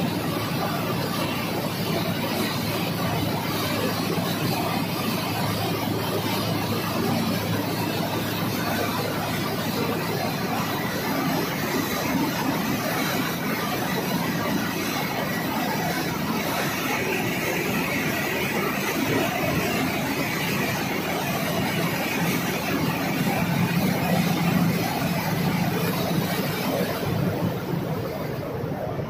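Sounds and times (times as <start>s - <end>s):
machinery drone: 0.0s - 29.0s.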